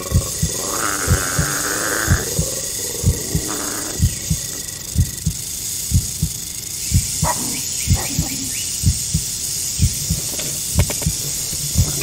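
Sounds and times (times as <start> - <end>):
heartbeat thumps: 0.0 - 12.0
steady high hiss: 0.0 - 12.0.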